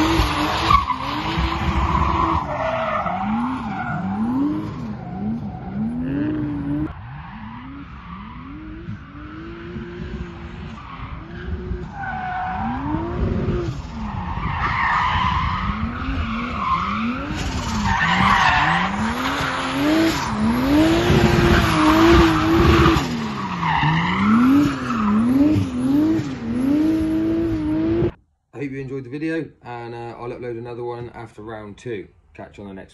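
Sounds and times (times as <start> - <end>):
tyres squealing and skidding: 0.0 - 28.0
car engine revving: 0.0 - 28.2.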